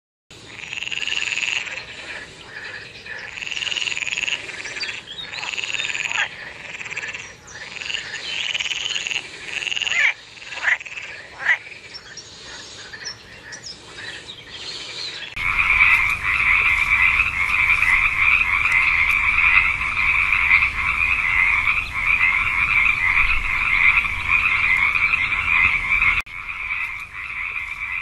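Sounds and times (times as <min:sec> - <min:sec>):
frogs croaking: 0:00.4 - 0:28.0
short sharp frog calls: 0:00.5 - 0:28.0.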